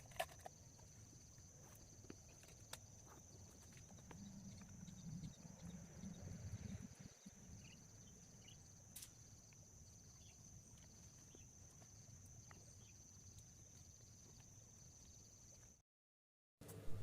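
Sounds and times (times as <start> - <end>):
high-pitched insect trill: 0.1 - 15.7.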